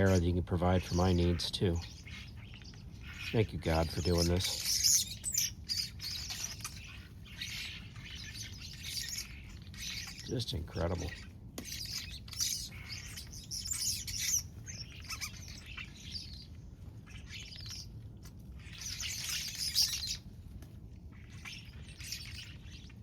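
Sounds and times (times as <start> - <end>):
flock of small birds chirping: 0.0 - 23.0.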